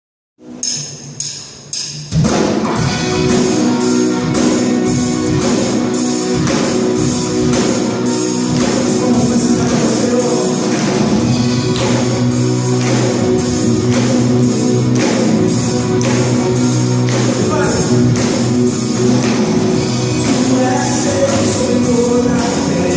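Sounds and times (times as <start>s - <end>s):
rock worship band playing: 0.4s - 22.9s.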